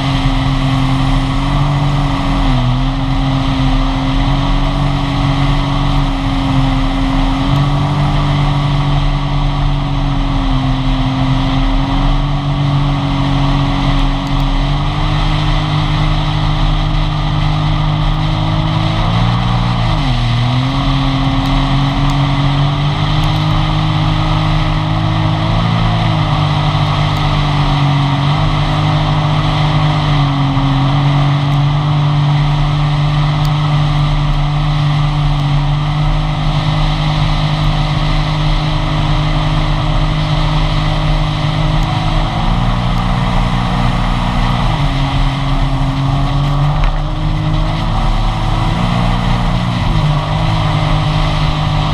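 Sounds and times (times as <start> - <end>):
jet ski engine running: 0.0 - 51.9
rushing water noise: 0.0 - 51.9.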